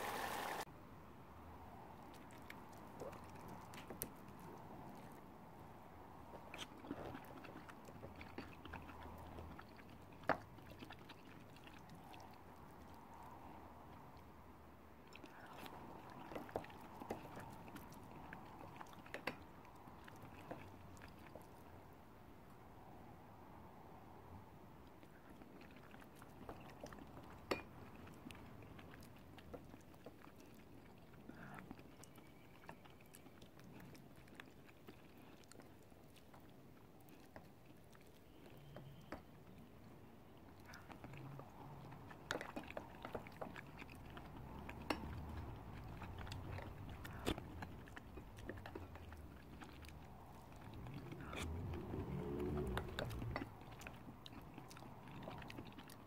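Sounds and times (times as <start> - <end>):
chewing and mouth sounds: 1.9 - 22.7, 24.7 - 56.0.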